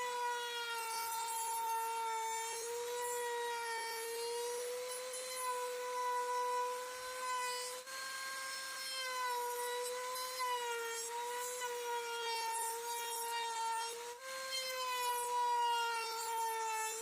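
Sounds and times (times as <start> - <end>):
power tool whining on wood: 0.0 - 17.0.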